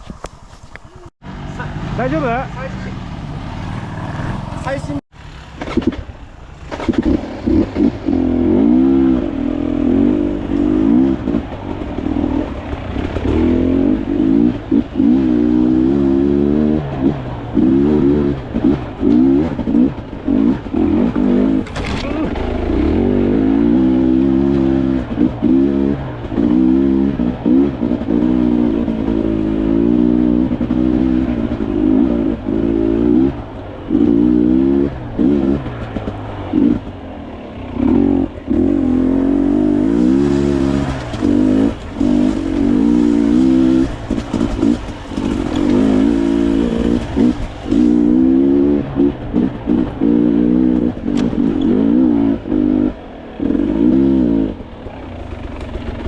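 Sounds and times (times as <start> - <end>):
dirt bike engine revving: 1.2 - 56.0.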